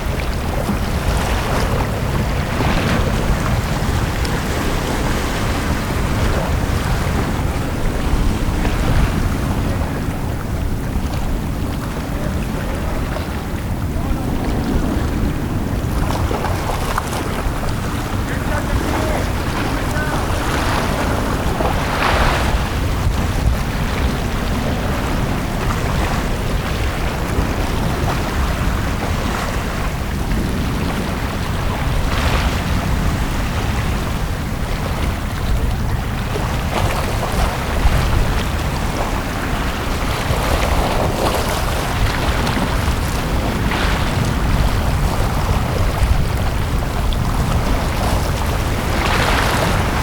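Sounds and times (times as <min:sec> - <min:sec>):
sea waves washing onto beach: 0:00.0 - 0:50.0.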